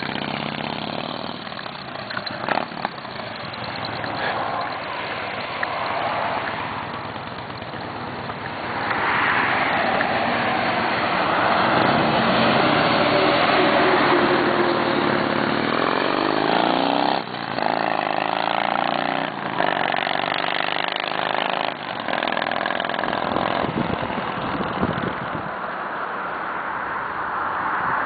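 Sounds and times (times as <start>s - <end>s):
motorcycle engine accelerating: 0.0s - 25.5s
large vehicle passing: 1.6s - 28.0s.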